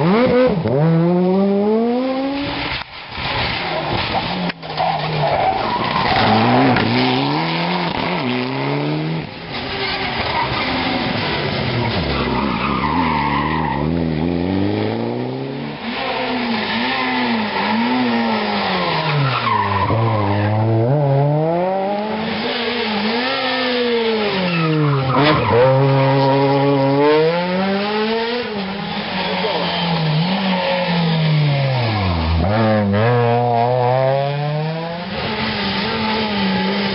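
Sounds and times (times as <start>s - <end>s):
rally car engines revving: 0.0s - 36.9s
tyres skidding on tarmac: 1.9s - 36.9s.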